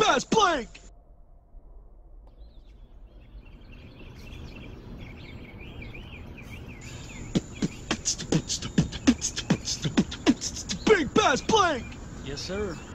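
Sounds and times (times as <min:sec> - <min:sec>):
low outdoor rumble: 0:00.0 - 0:12.9
small bird chirping: 0:02.3 - 0:12.9.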